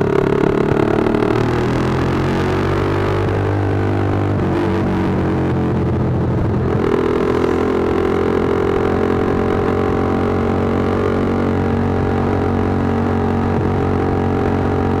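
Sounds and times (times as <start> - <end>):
motorcycle exhaust while riding: 0.0 - 15.0.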